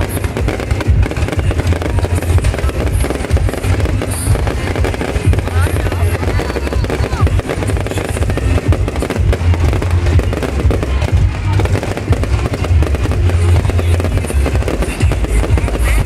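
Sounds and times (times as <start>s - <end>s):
fireworks crackling and banging: 0.0s - 16.0s
music playing: 0.0s - 16.0s.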